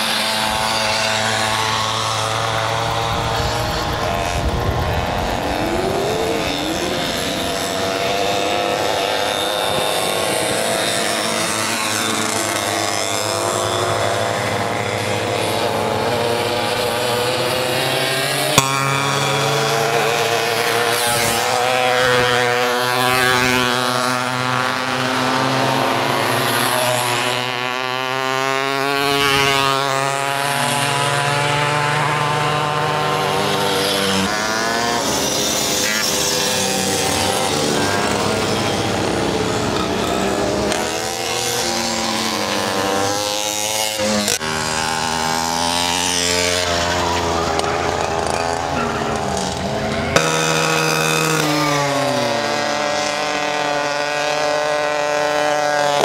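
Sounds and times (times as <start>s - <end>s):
racing mopeds passing: 0.0s - 56.0s.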